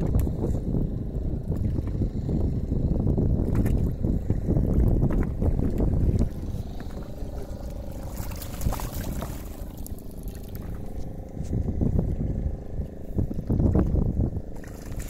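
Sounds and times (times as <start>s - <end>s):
steady low hum: 0.0s - 15.0s
water sloshing against boat hull: 0.0s - 15.0s
wind rumbling on microphone: 0.0s - 15.0s.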